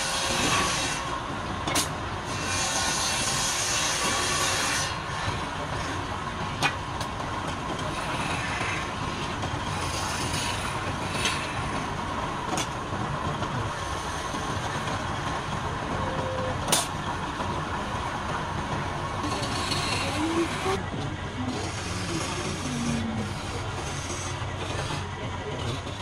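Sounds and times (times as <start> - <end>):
wood lathe running: 2.2 - 16.2, 17.1 - 26.0.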